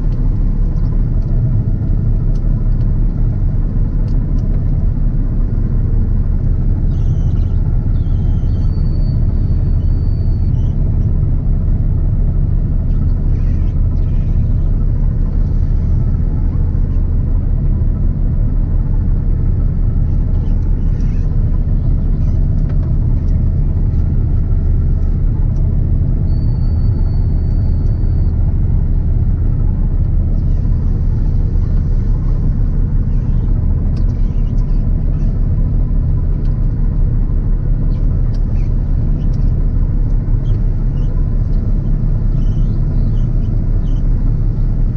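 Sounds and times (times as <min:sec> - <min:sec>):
combine harvester droning: 0:00.0 - 0:44.9.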